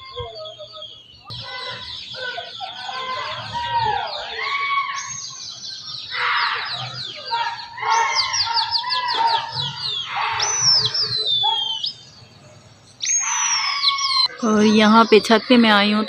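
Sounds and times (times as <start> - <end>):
falling whistles: 0.0 - 15.8
bird chirps: 0.0 - 16.0.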